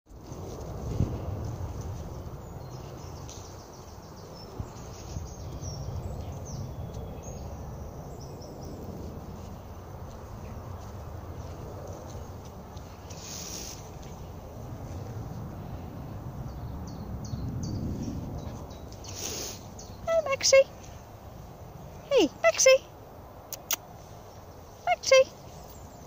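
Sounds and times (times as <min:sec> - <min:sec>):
steady low rumble: 0:00.1 - 0:26.0.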